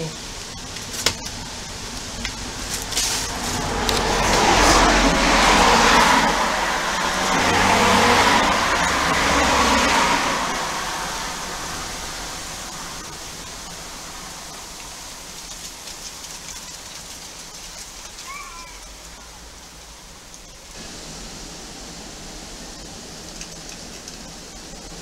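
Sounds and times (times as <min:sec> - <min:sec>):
rain drops ticking: 0:00.0 - 0:25.0
rain hiss: 0:00.0 - 0:25.0
car tyres passing: 0:00.8 - 0:25.0.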